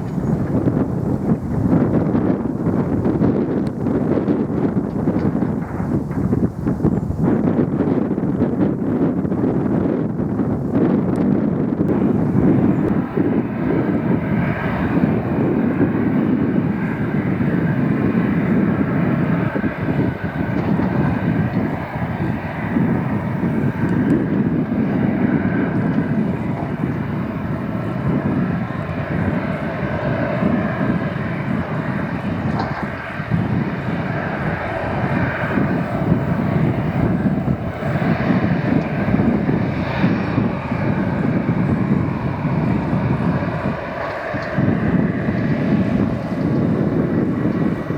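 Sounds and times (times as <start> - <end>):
jet engines rumbling: 0.0 - 47.9.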